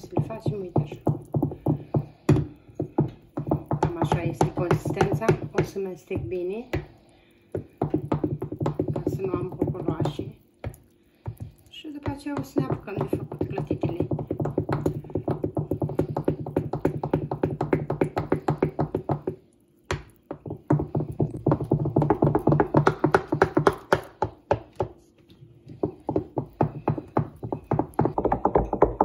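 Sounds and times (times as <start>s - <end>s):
wooden spoon beating batter in bowl: 0.0s - 29.0s.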